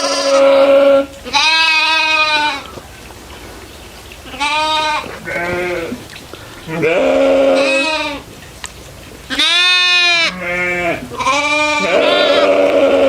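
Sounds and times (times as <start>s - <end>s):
goats bleating: 0.0s - 2.8s, 4.3s - 8.3s, 9.3s - 13.0s.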